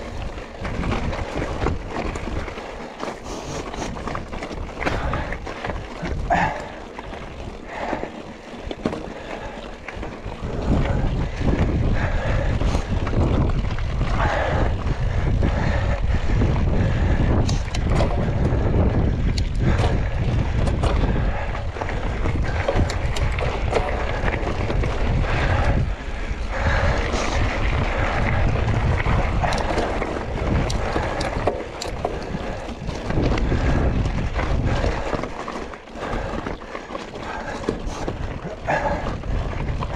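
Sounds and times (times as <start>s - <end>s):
bike rattling and clicking: 0.0s - 39.9s
bike tyre noise: 0.0s - 39.9s
wind buffeting microphone: 0.0s - 39.9s.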